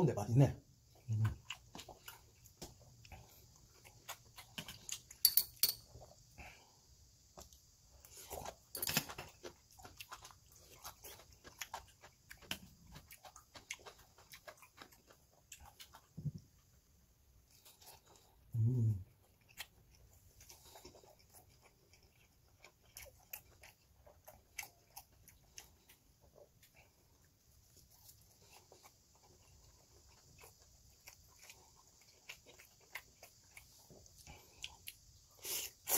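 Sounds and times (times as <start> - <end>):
wet chewing and smacking: 0.8 - 6.3, 7.2 - 35.9.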